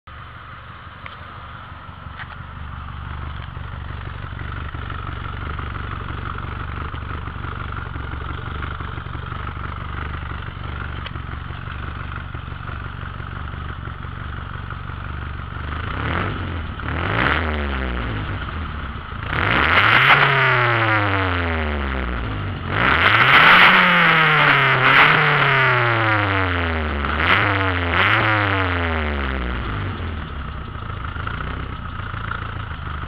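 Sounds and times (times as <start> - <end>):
car engine idling: 0.1 - 23.3, 23.9 - 33.0.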